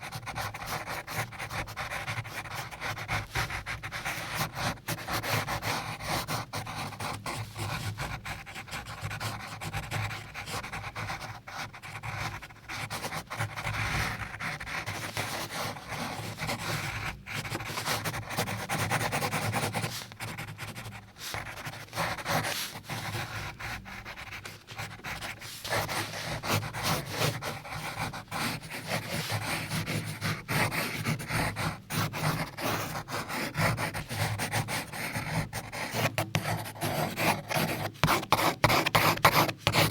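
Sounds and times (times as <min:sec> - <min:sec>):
pencil scratching on paper: 0:00.0 - 0:39.9.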